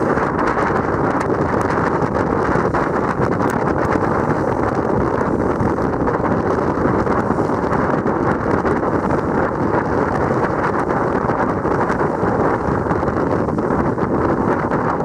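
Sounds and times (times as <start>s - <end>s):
water churning past hull: 0.0s - 15.0s
wind buffeting microphone: 0.0s - 15.0s.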